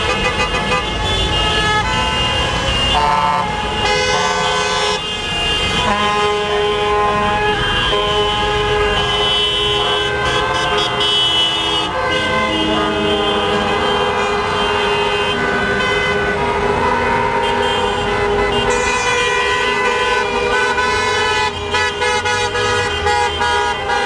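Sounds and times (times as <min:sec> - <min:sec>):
car horns honking: 0:00.0 - 0:24.0
passing traffic: 0:00.0 - 0:24.0.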